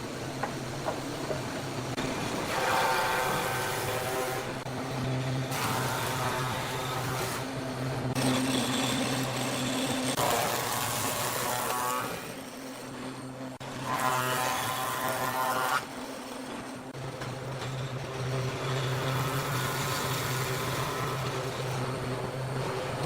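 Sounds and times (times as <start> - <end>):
power tool cutting wood: 2.0 - 16.9, 17.5 - 23.0.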